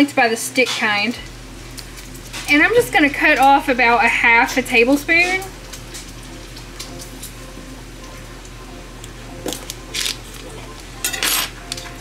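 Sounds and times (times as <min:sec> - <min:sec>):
dishwasher humming: 0:00.2 - 0:12.0
bacon sizzling in a pan: 0:01.2 - 0:12.0.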